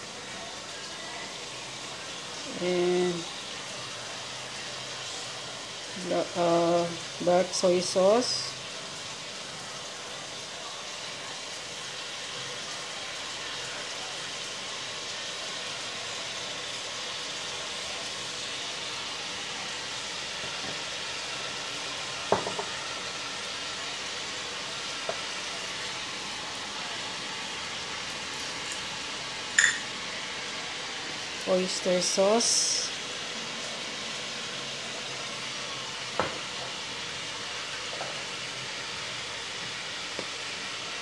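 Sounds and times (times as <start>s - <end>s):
chicken frying in oil: 0.0s - 41.0s.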